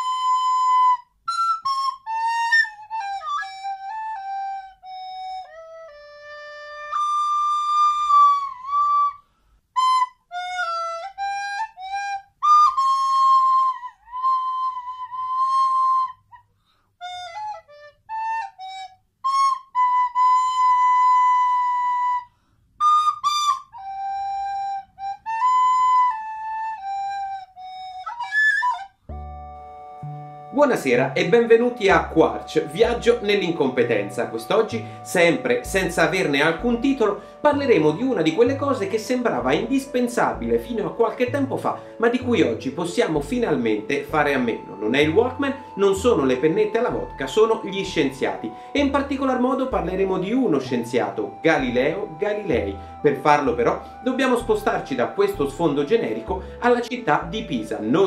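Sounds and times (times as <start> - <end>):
solo flute melody: 0.0 - 58.0.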